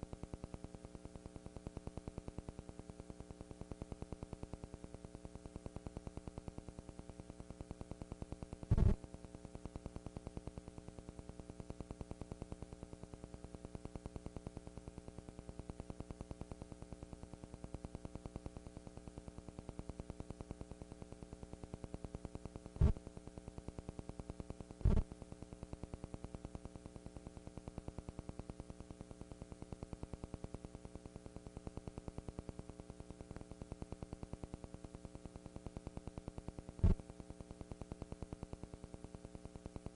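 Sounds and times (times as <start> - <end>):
electrical hum and buzz: 0.0 - 39.9.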